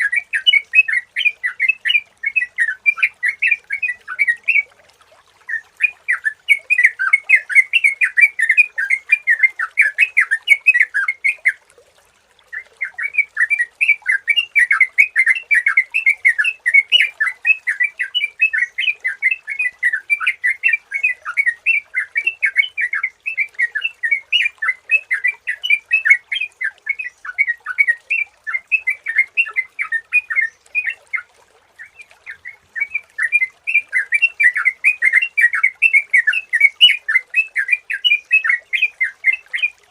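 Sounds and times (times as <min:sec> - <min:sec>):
bulbul song bubbling chirps: 0:00.0 - 0:11.8, 0:12.4 - 0:39.9.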